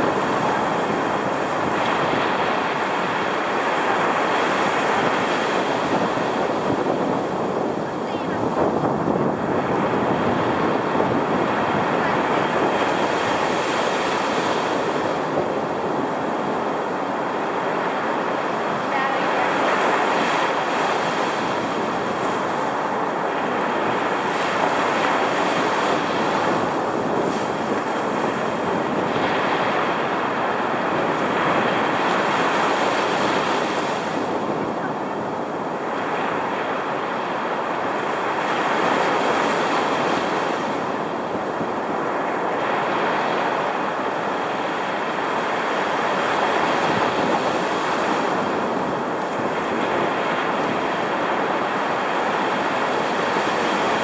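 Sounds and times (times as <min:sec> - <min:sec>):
surf breaking on beach: 0:00.0 - 0:54.0.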